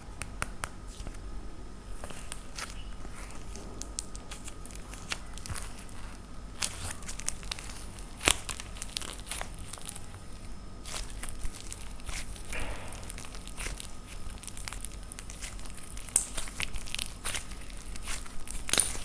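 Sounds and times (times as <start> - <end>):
dried clay cracking and crunching: 0.0 - 19.0.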